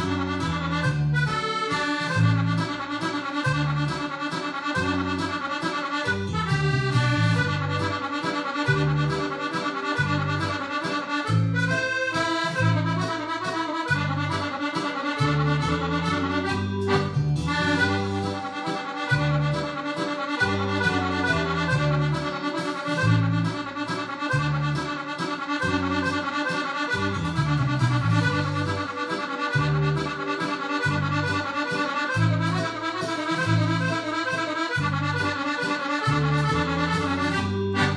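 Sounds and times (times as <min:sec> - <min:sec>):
accordion playing a mazurka: 0:00.0 - 0:37.9.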